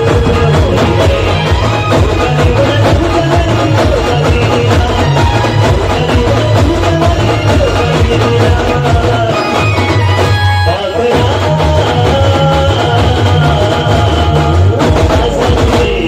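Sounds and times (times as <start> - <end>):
amplified banjo melody: 0.0 - 16.0
drum and bass beat: 0.0 - 16.0.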